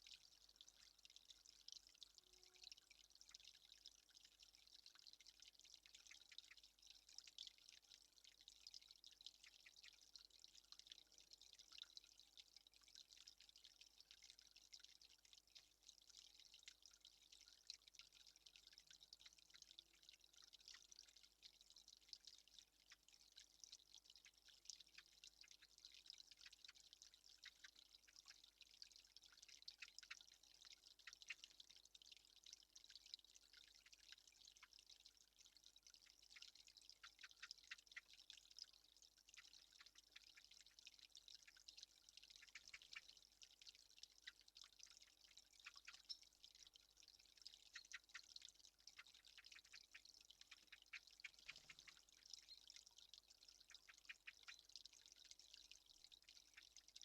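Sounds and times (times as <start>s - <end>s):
water drops dripping: 0.0s - 57.0s.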